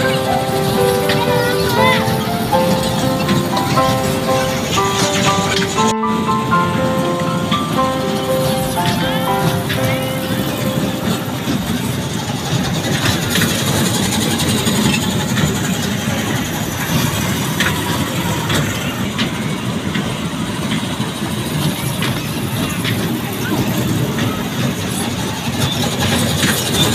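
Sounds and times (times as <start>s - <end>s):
train ride mechanical rumble: 0.0s - 26.9s.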